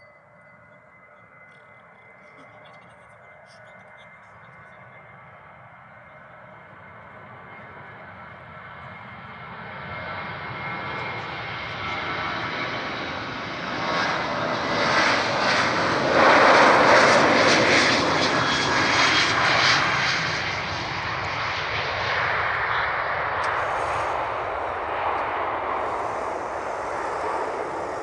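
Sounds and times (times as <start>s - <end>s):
jet engines at takeoff thrust: 0.0s - 28.0s.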